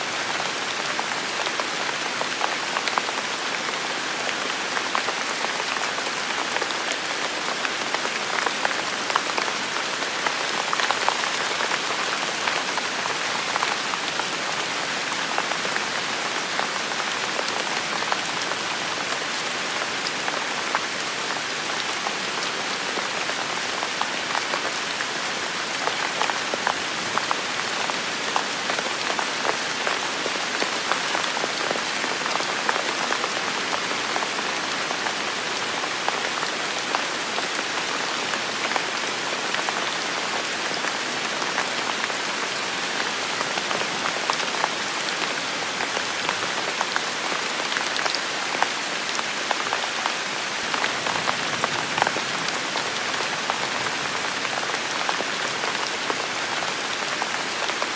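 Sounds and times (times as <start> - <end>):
heavy rain in forest: 0.0 - 57.9.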